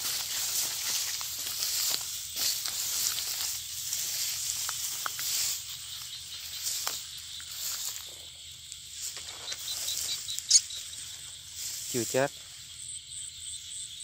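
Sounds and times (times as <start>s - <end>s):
clicks and rustles in grass: 0.0s - 12.7s
insects hissing: 0.0s - 14.0s.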